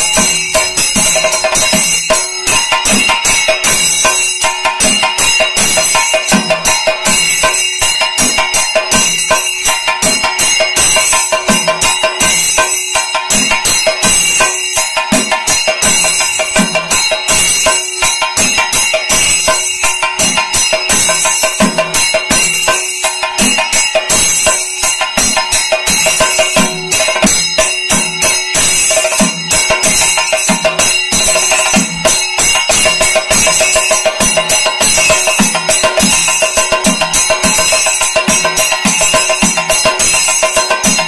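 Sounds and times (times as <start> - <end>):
drums beaten with sticks: 0.0 - 41.0
small hand cymbals ringing: 0.0 - 41.0.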